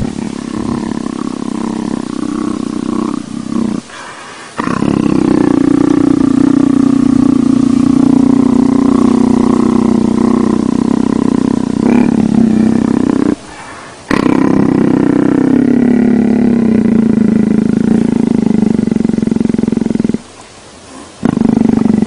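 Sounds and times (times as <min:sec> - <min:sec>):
leopard purring: 0:00.0 - 0:20.3, 0:20.9 - 0:22.0.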